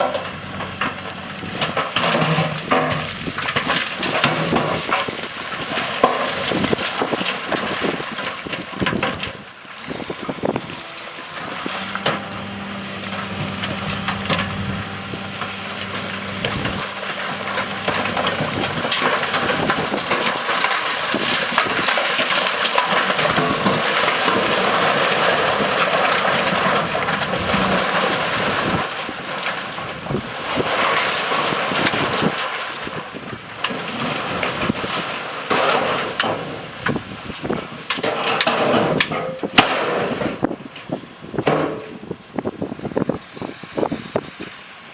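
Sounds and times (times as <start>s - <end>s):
diesel engine running: 0.0s - 37.9s
dirt and rock crunching: 0.0s - 44.6s.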